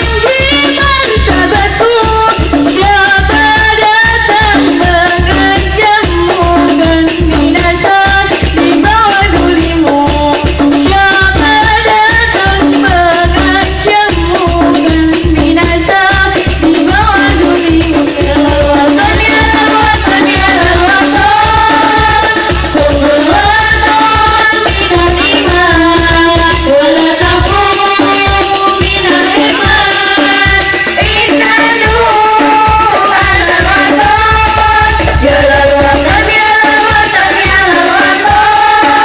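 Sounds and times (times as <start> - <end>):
frame drums: 0.0 - 39.0.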